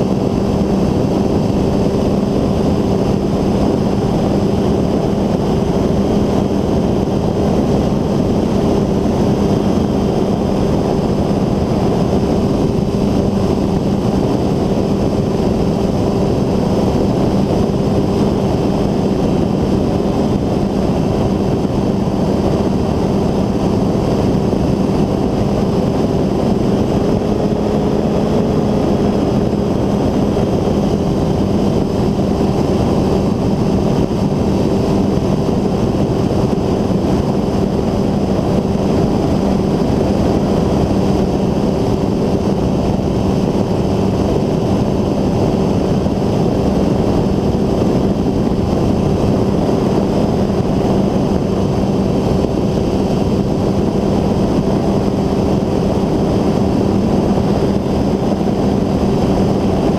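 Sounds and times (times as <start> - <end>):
ultralight engine and propeller drone: 0.0 - 59.9.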